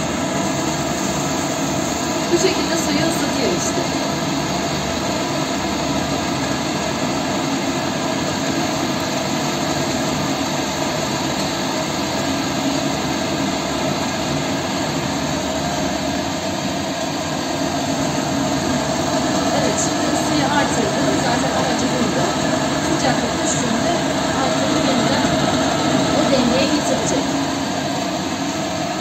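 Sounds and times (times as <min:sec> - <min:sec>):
constant hum: 0:00.0 - 0:29.0
gas burner rushing: 0:00.0 - 0:29.0.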